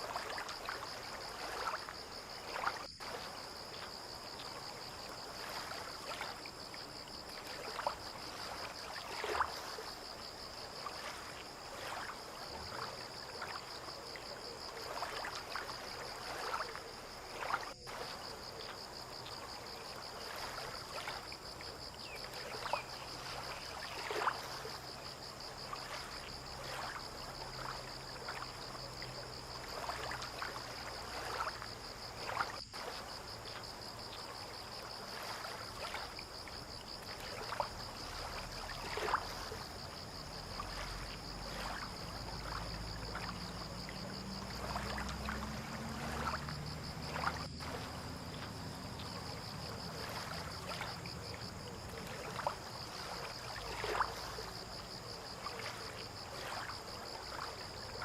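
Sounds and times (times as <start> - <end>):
high insect trill: 0.0 - 58.0
water lapping and splashing: 0.0 - 58.0.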